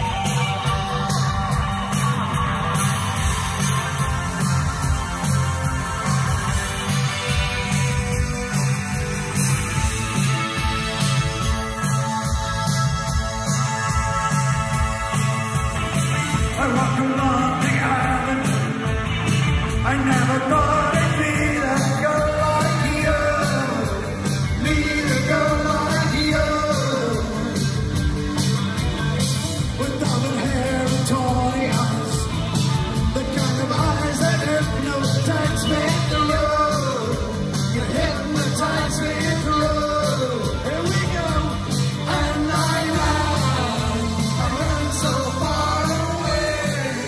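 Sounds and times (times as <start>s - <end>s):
male lead vocal: 0.0s - 28.5s, 29.2s - 47.0s
drums with steady beat: 0.0s - 47.0s
electric guitar: 0.0s - 47.0s.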